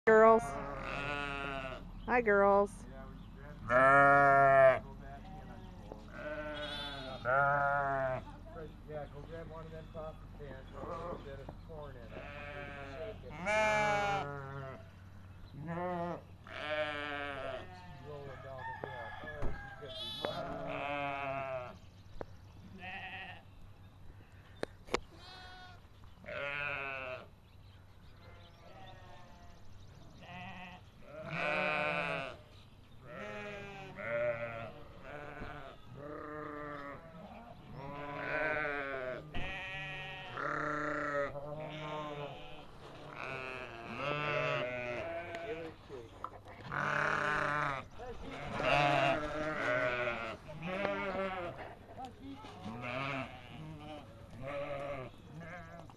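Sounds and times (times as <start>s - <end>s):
sheep and lambs bleating: 0.1s - 2.6s, 3.6s - 8.4s, 10.7s - 11.4s, 12.0s - 18.4s, 19.8s - 21.8s, 22.6s - 23.5s, 25.1s - 27.4s, 28.2s - 46.0s, 46.6s - 51.8s, 52.4s - 55.9s.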